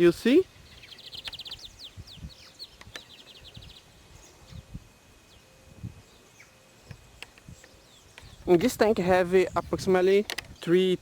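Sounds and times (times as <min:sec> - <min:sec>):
bird chirping: 0:00.0 - 0:11.0
faint insect-like hum: 0:00.0 - 0:11.0.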